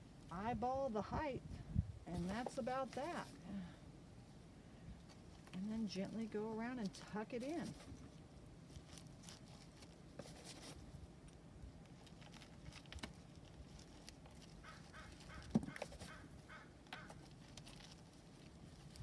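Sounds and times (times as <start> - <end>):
crunching and rustling husk chips: 2.8 - 19.0.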